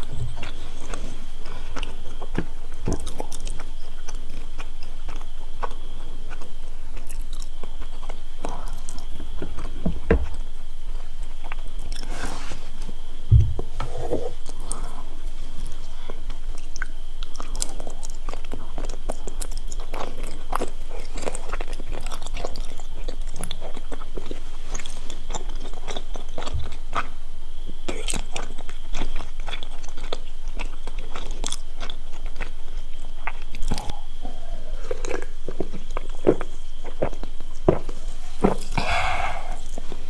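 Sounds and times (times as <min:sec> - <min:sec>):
wet chewing and biting: 0:00.0 - 0:12.1, 0:15.6 - 0:27.2, 0:27.8 - 0:39.9.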